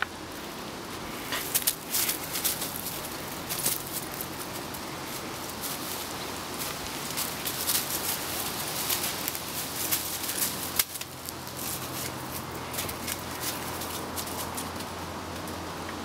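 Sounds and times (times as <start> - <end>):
footsteps crunching dry leaves: 0.3 - 15.1.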